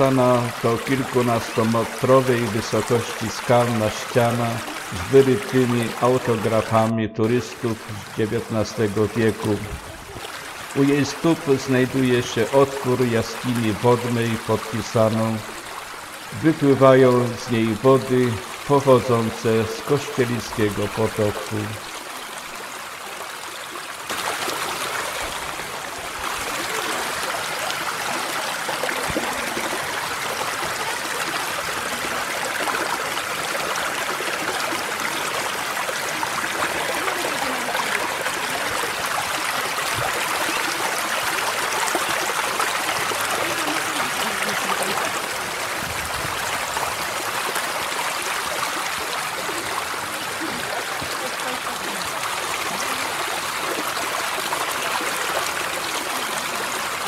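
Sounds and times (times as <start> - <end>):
stream splashing over rocks: 0.0 - 57.0.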